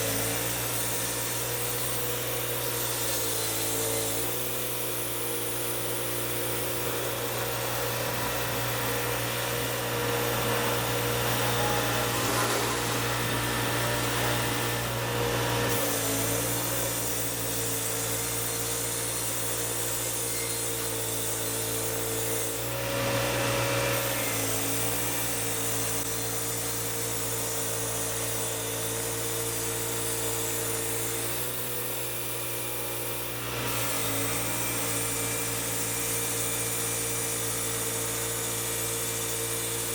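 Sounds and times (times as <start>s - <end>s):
sawmill cutting log: 0.0s - 39.9s.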